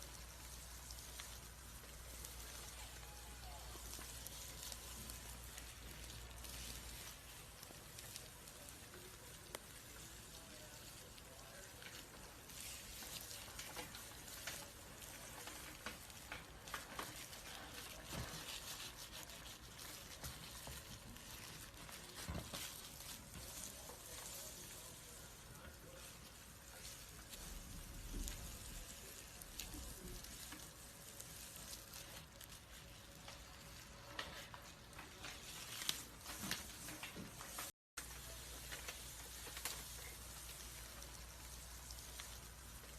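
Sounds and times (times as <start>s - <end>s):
snake skin crackling and rustling: 0.0s - 42.9s.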